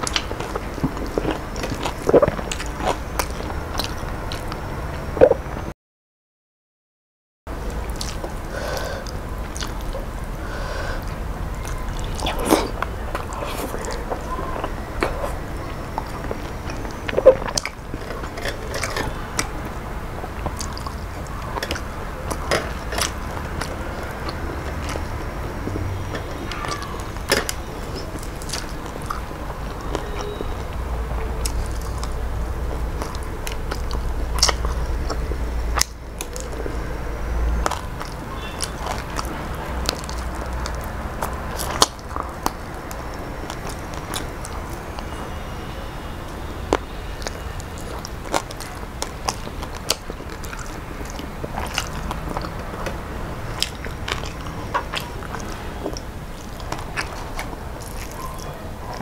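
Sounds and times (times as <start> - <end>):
chewing and biting food: 0.0 - 5.7, 7.6 - 59.0.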